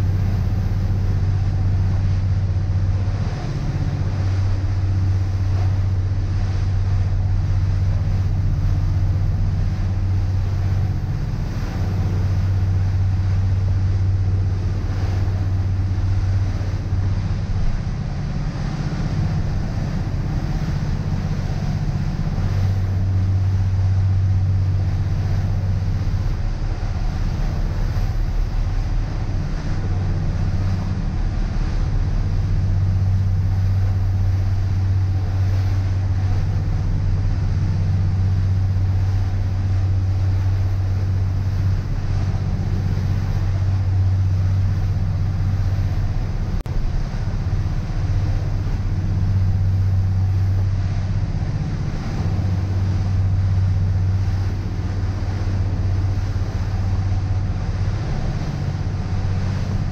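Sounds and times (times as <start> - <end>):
boat engine drone: 0.0 - 59.9
rushing wind and water: 0.0 - 59.9.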